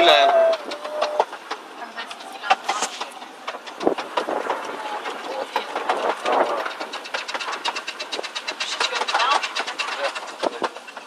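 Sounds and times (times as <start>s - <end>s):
train wheels clicking over track: 0.0s - 11.0s.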